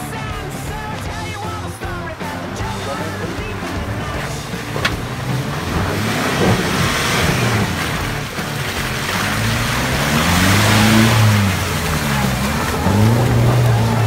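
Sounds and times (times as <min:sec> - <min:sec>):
engine revving: 0:00.0 - 0:14.0
rushing noise: 0:01.4 - 0:14.0.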